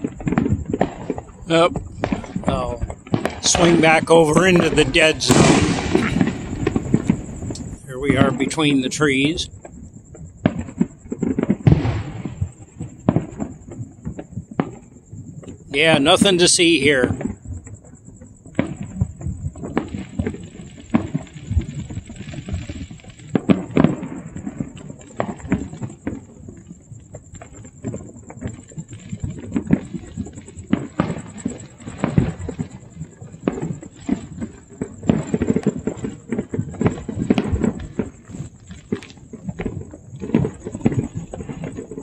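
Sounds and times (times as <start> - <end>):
distant fireworks crackling: 0.0 - 42.0
loud fireworks bangs: 0.0 - 42.0.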